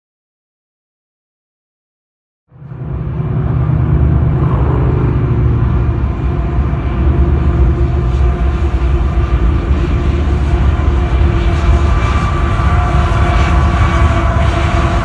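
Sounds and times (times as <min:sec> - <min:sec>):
diesel locomotives rumbling: 0:02.5 - 0:15.0
steady hum: 0:02.5 - 0:15.0.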